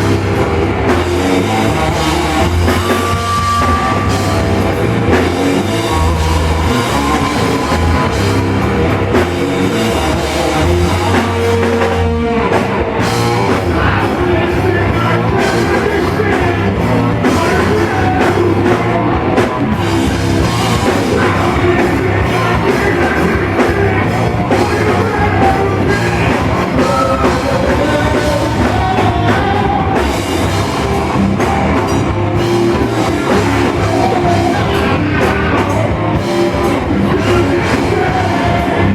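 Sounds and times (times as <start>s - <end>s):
drum kit: 0.0s - 38.9s
guitar: 0.0s - 38.9s
person singing: 0.0s - 38.9s
rock band playing: 0.0s - 38.9s.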